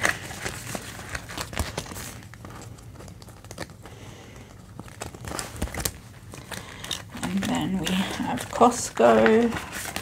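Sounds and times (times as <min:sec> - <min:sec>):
plastic pockets crinkling: 0:00.0 - 0:10.0.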